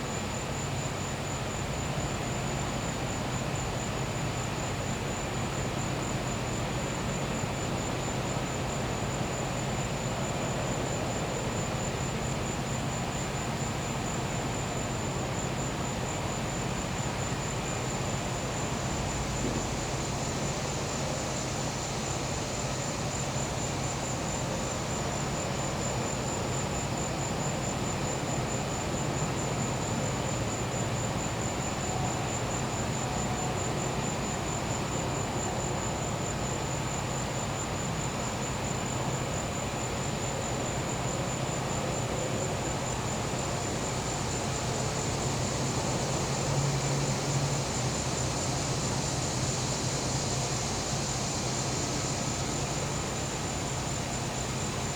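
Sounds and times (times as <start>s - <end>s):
cricket trilling: 0.0s - 54.9s.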